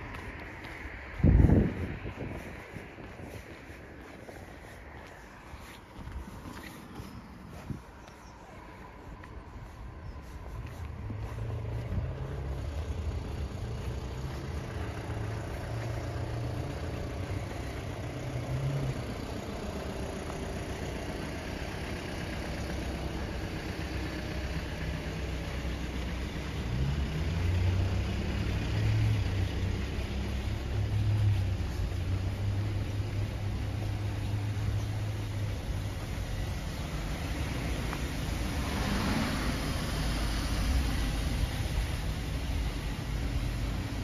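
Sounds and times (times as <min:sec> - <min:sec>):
car engines rumbling in traffic: 0:00.0 - 0:44.0.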